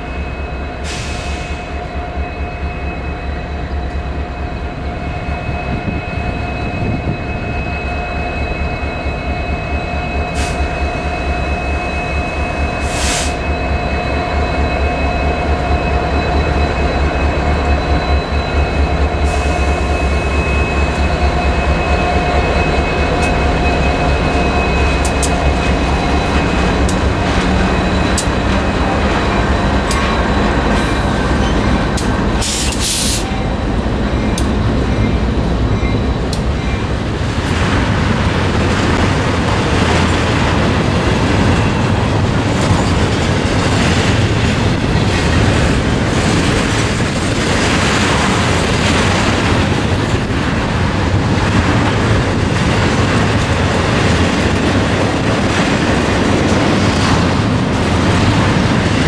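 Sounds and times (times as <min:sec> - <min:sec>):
diesel locomotive engine: 0:00.0 - 0:59.0
train wheels rumbling on rail: 0:00.0 - 0:59.0.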